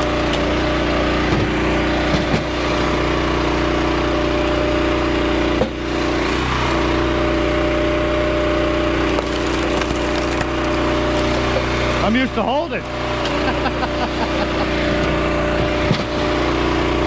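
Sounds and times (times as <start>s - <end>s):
gas engine running under load: 0.0s - 17.0s.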